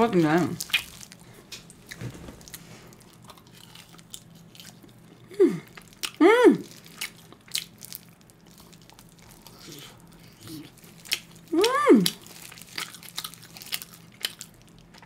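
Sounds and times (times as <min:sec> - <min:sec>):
chewing and biting: 0:00.2 - 0:15.0.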